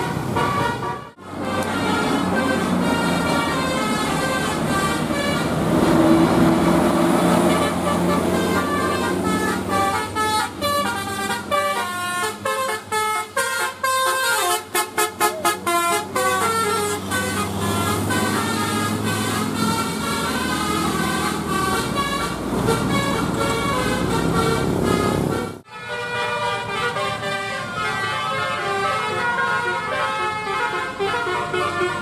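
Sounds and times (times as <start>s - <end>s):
bus engine low hum: 0.0s - 25.7s
bus multi-tone horn tune: 0.0s - 32.0s.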